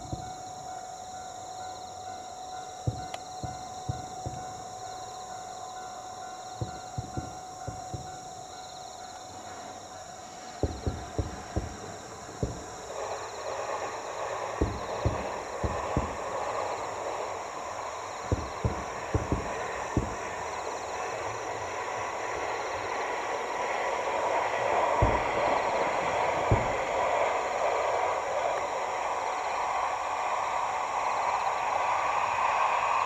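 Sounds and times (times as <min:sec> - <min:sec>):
distant fireworks booms: 0:00.0 - 0:30.1
broad hiss: 0:00.0 - 0:33.0.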